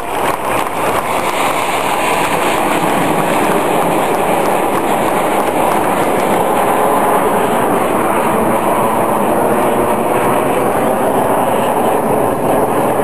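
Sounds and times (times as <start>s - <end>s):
jet engine overhead: 0.0s - 13.0s.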